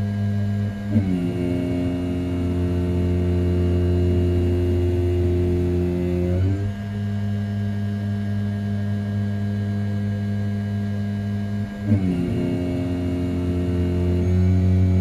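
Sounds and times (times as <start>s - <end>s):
milling machine hum: 0.0s - 10.3s, 11.0s - 15.0s.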